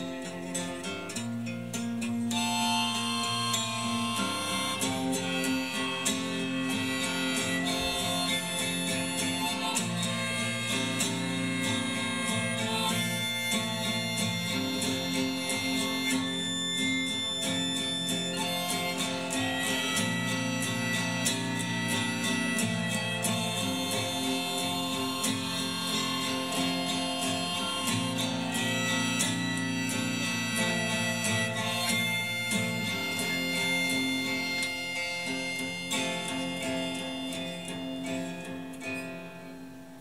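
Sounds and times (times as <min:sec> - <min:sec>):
harmonica holding notes: 0:00.0 - 0:40.0
strummed acoustic guitar: 0:00.0 - 0:40.0.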